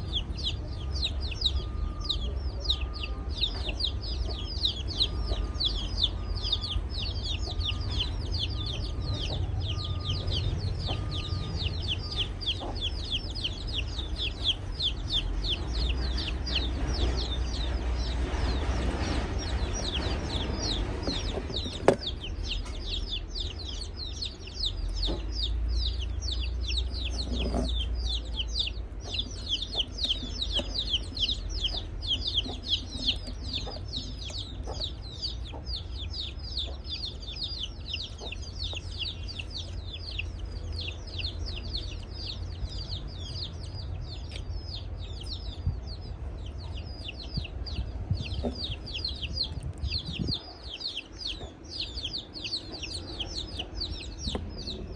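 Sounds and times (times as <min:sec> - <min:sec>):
birds cheeping: 0:00.0 - 0:54.9
low rumble: 0:00.0 - 0:54.9.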